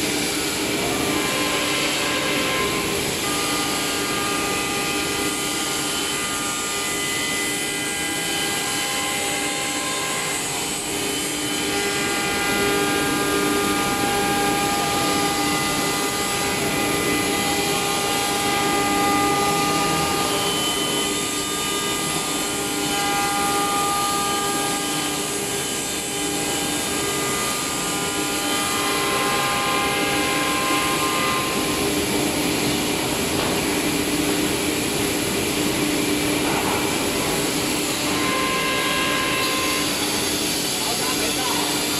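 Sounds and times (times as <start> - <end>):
router spindle whining: 0.0 - 41.9
wood cutting rush: 0.0 - 41.9.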